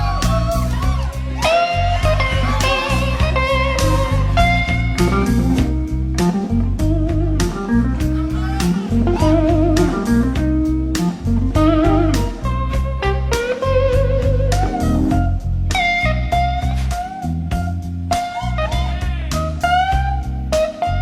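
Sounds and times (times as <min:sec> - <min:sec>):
electric blues band playing: 0:00.0 - 0:21.0
electric guitar solo: 0:00.0 - 0:21.0.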